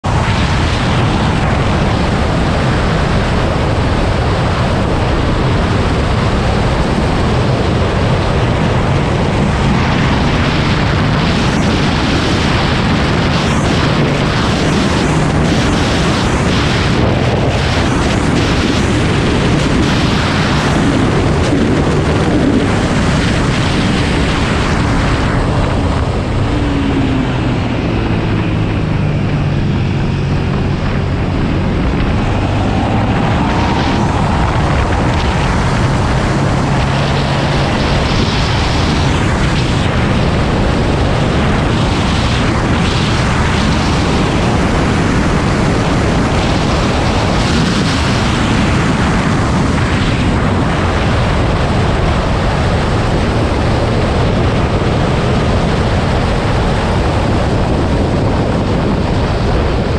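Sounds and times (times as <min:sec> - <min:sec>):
motorcycle engine running hard: 0:00.0 - 0:59.9
wind rush on microphone: 0:00.0 - 0:59.9.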